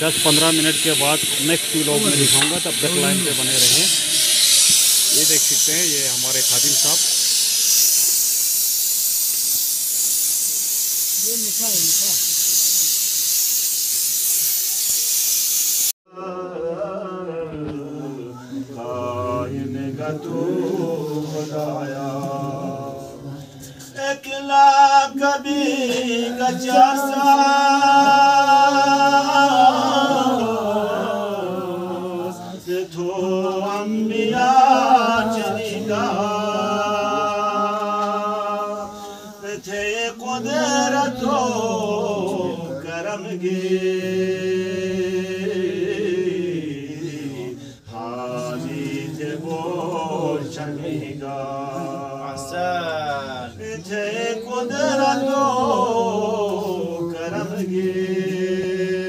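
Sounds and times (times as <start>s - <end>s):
man chanting unaccompanied: 0.0s - 7.2s, 16.1s - 59.0s.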